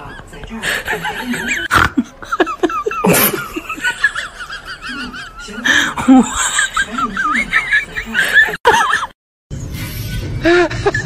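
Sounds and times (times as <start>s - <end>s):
people laughing: 0.0s - 9.2s, 10.4s - 11.0s.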